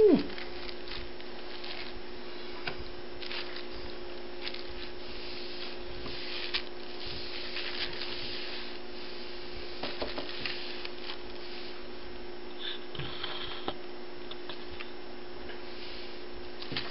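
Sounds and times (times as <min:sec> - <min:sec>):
steady electrical hum: 0:00.0 - 0:16.9.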